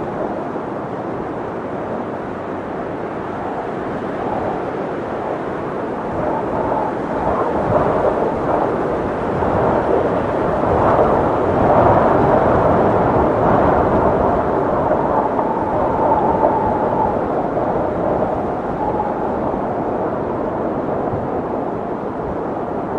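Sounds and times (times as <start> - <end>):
roar of tornado-force wind: 0.0 - 22.9.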